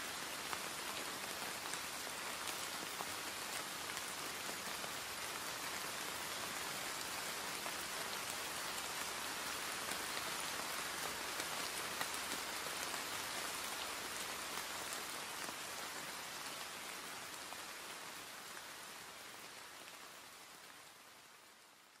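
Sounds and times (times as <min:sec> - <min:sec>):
rain pattering on surfaces: 0:00.0 - 0:22.0.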